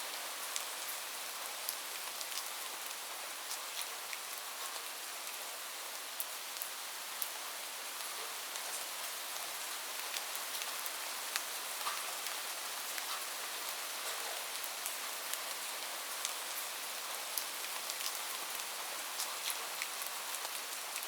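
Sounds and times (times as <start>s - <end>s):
raindrops ticking on a surface: 0.2s - 21.0s.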